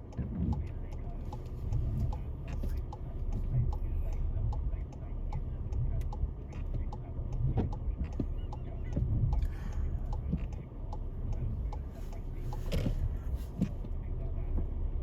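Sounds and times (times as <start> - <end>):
light regular ticking: 0.0 - 14.1
car engine idling: 0.0 - 15.0.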